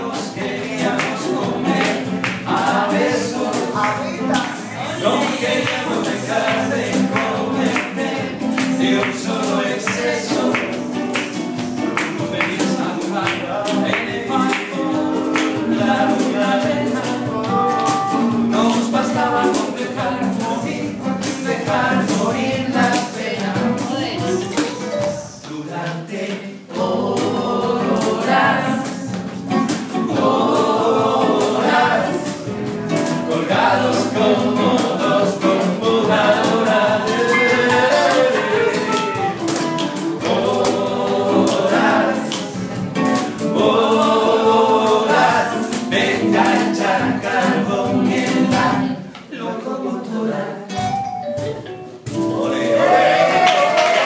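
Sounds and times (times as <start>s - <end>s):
guitar strumming: 0.0s - 25.2s, 27.2s - 44.0s, 50.7s - 53.4s
men singing together: 0.0s - 50.9s, 52.1s - 54.0s.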